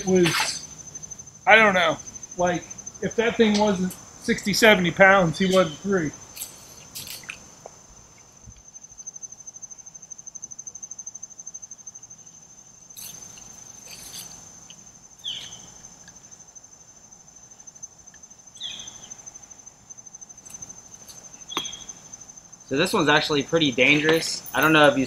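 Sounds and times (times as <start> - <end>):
insect trill: 0.0 - 25.0.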